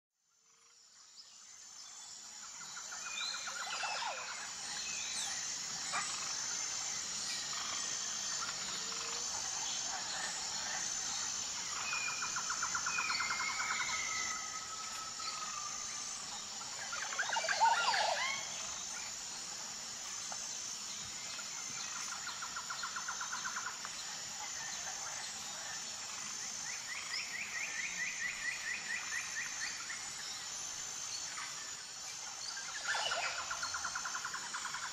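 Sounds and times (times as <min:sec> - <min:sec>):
birds singing trills and calls: 0:01.3 - 0:34.9
pulsing high-pitched drone: 0:01.5 - 0:34.9.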